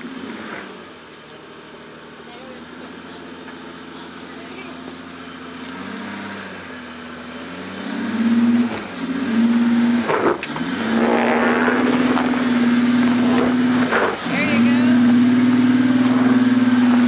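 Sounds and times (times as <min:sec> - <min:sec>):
car engine revving under load: 0:00.0 - 0:17.0.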